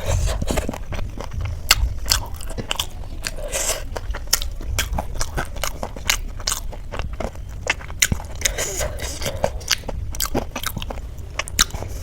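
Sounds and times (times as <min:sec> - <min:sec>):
crunchy snack chewing: 0:00.0 - 0:12.0.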